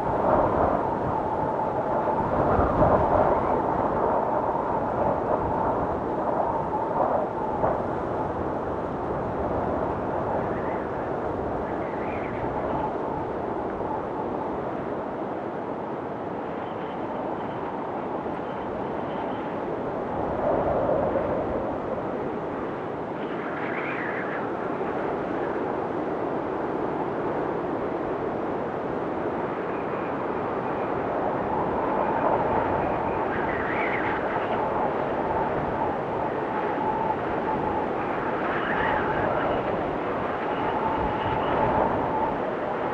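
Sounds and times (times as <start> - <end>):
blizzard wind blowing: 0.0 - 42.9
faint wind whistling: 0.0 - 42.9.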